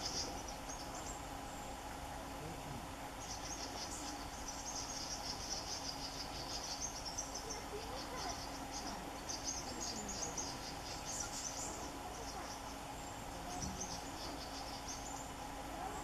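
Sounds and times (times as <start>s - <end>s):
faint bird calls: 0.0s - 16.0s
insects trilling: 0.0s - 16.0s.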